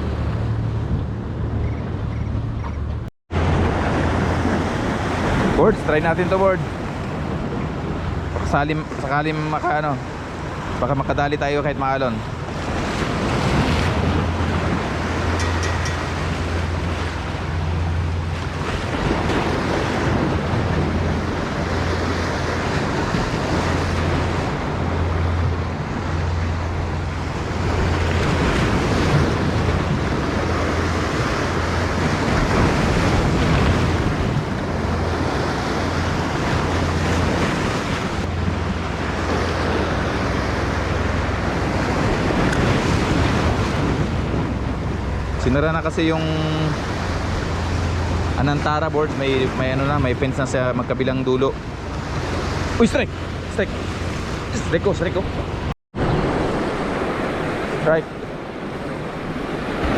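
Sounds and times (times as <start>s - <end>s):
sea surf washing: 0.0s - 2.6s, 3.3s - 59.9s
wind buffeting microphone: 0.0s - 59.9s.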